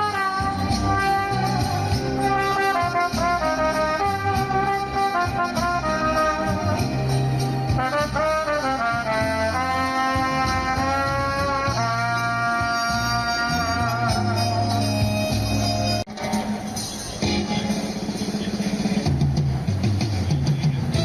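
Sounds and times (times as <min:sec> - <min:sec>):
trumpet melody: 0:00.0 - 0:18.0
bass line: 0:00.0 - 0:21.0.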